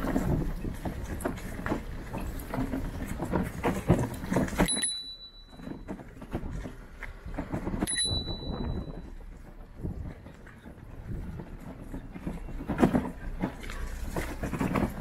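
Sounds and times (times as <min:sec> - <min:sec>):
bicycle rattling: 0:00.0 - 0:15.0
road and wind noise: 0:00.0 - 0:15.0.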